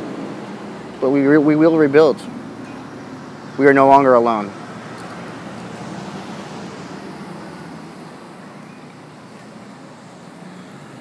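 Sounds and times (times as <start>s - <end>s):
car passing: 0.0s - 11.0s.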